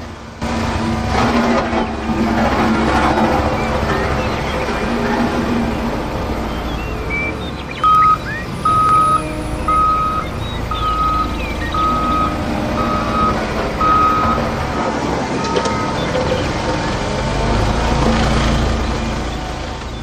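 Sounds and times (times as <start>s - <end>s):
low vehicle rumble: 0.0s - 20.0s
reversing alarm beeping: 1.2s - 20.0s.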